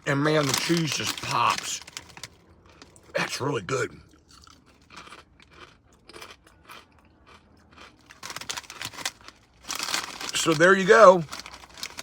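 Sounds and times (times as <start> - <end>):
person chewing crunchy chips: 0.1 - 12.0.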